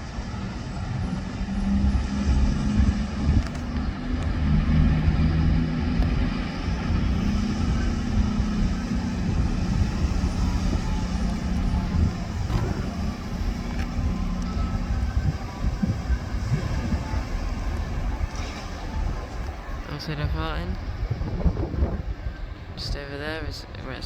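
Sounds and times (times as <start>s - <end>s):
diesel train engine rumbling: 0.0s - 24.0s.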